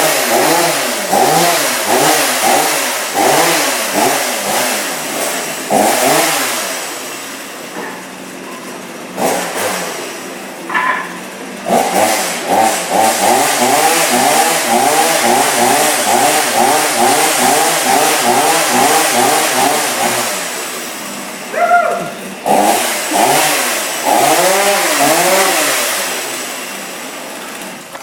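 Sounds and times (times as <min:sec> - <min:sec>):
chainsaw engine revving: 0:00.0 - 0:07.6, 0:09.0 - 0:11.0, 0:11.6 - 0:28.0.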